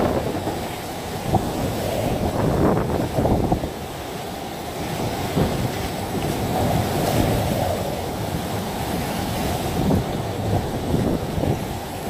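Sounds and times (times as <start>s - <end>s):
strong wind buffeting microphone: 0.0s - 12.0s
wind-driven rain: 0.0s - 12.0s.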